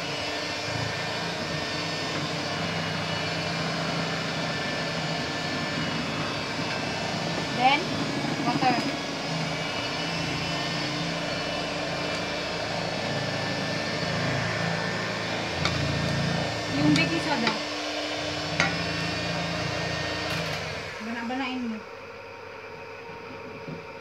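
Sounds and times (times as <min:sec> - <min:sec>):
electric hand mixer running: 0:00.0 - 0:24.0.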